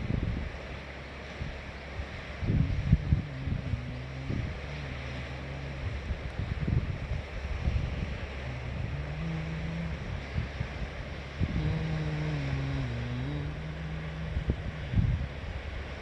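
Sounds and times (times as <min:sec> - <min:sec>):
faint low engine drone: 0:00.0 - 0:16.0
wind rumbling on microphone: 0:00.0 - 0:16.0.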